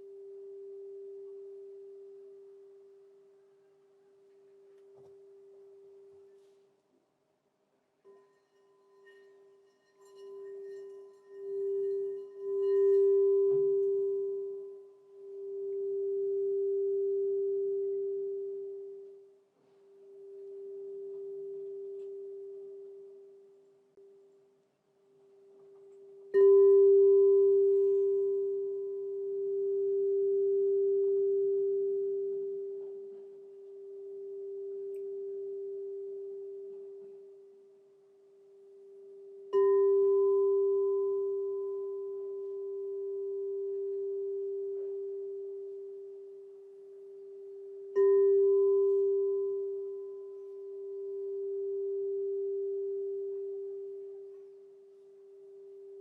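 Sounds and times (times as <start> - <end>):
singing bowl ringing: 8.0 - 24.2, 25.4 - 56.0.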